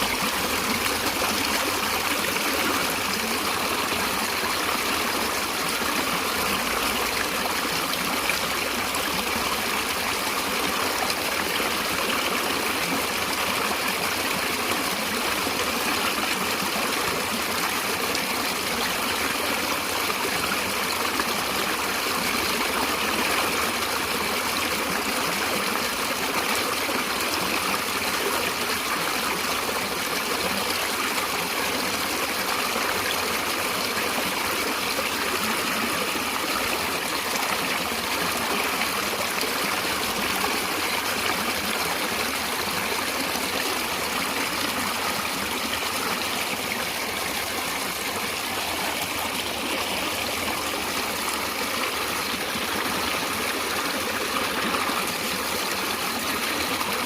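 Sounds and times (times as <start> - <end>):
stream of running water: 0.0 - 57.0.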